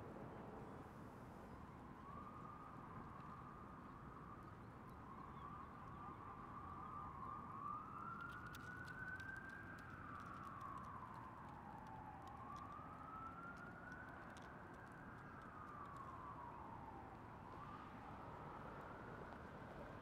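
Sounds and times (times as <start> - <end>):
faint distant siren: 1.3 - 20.0.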